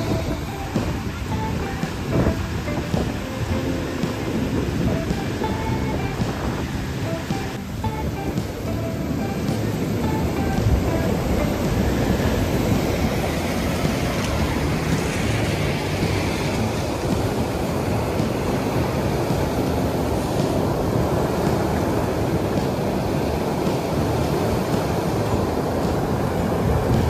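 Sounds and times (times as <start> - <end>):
waves breaking on pebble beach: 0.0 - 27.0.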